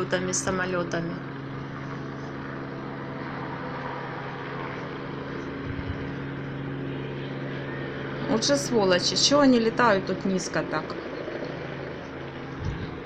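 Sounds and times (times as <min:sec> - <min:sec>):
helicopter flying low overhead: 0:00.0 - 0:13.0.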